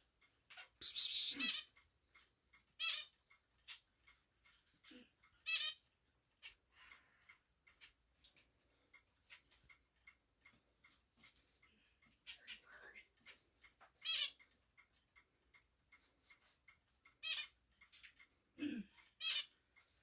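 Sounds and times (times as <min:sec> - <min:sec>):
faint ticks and taps: 0:00.0 - 0:00.8, 0:01.6 - 0:20.0.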